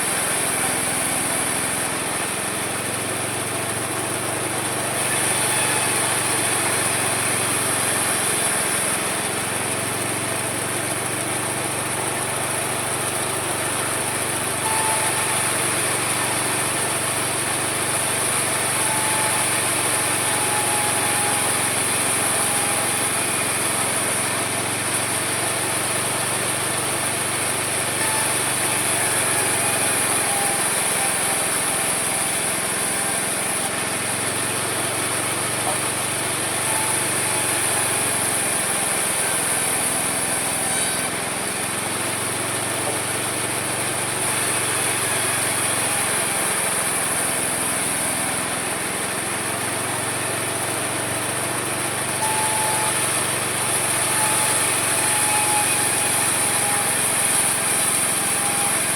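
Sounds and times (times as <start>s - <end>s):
sawmill sawing wood: 0.0s - 58.9s.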